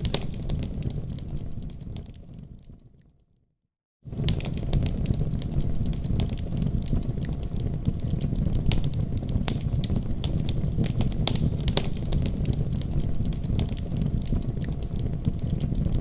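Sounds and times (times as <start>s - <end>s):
fire roaring with crackles: 0.0s - 2.9s, 4.1s - 16.0s.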